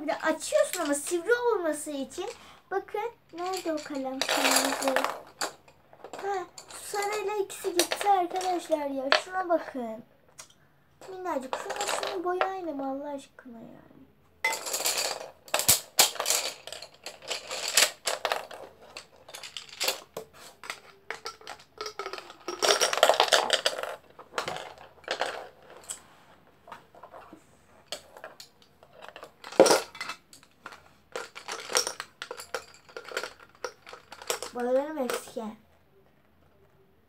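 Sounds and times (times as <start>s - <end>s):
wooden pencils rattling: 0.0s - 2.5s, 3.3s - 9.6s, 10.4s - 12.6s, 14.4s - 26.1s, 26.7s - 35.5s.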